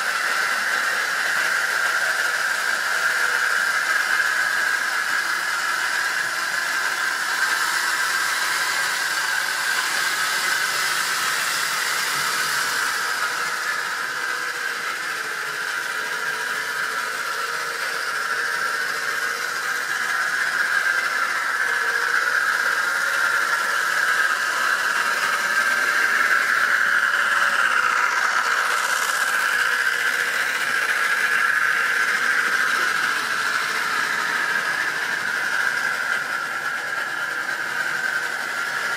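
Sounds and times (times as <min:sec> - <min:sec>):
model train motor whirring: 0:00.0 - 0:38.9
wheels on track: 0:00.0 - 0:38.9.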